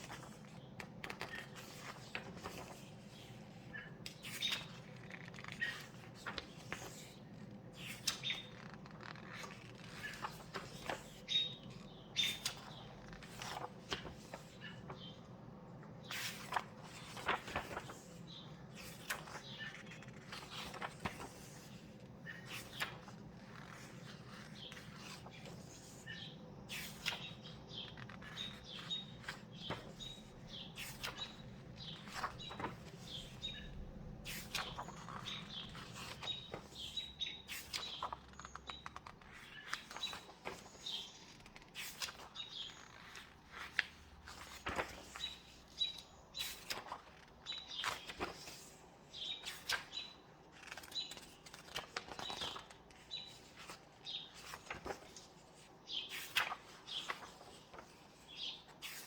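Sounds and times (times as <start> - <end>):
book pages turning: 0.0 - 15.1, 15.8 - 59.0.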